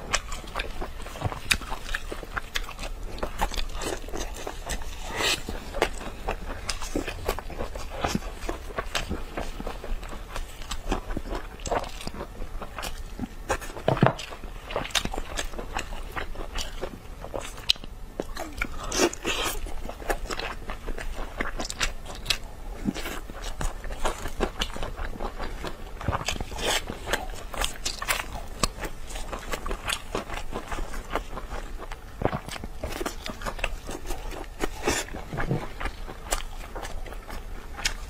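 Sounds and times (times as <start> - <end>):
biting and chewing meat: 0.0 - 38.0.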